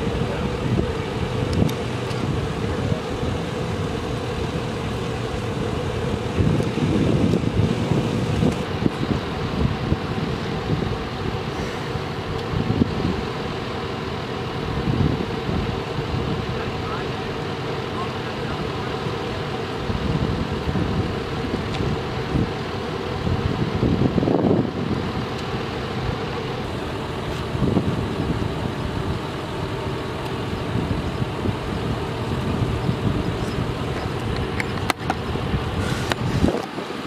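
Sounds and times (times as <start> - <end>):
wind buffeting microphone: 0.0 - 17.0, 19.6 - 37.0
engine idling: 0.0 - 37.0.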